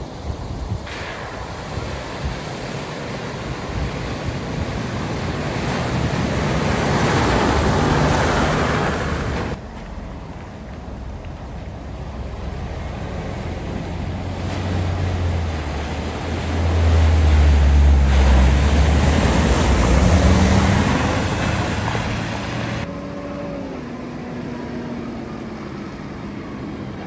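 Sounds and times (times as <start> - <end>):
water splashing: 0.0 - 22.9
vehicle engine humming: 3.7 - 27.0.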